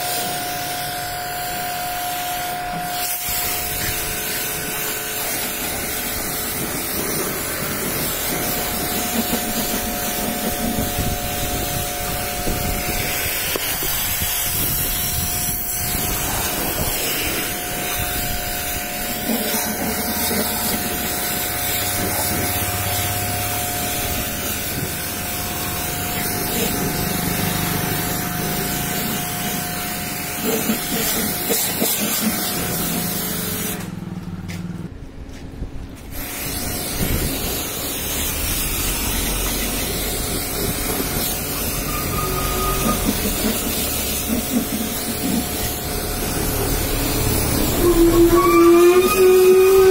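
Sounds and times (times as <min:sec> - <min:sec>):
pressure washer jet hissing: 0:00.0 - 0:34.0, 0:36.0 - 0:49.9.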